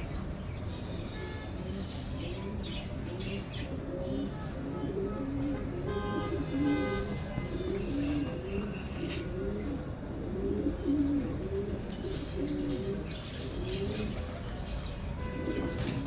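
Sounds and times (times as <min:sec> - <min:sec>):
small birds chirping: 0:00.0 - 0:04.9, 0:07.5 - 0:16.0
pigeons cooing: 0:01.6 - 0:16.0.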